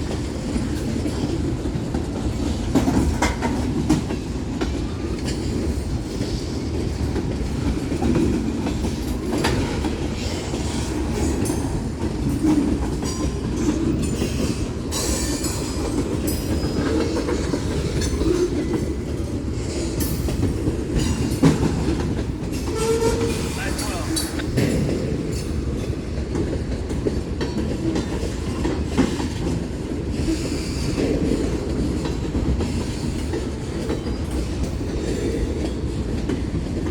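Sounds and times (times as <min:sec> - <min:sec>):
train cars rumbling: 0:00.0 - 0:36.9
wheels clicking over rail joints: 0:00.0 - 0:36.9.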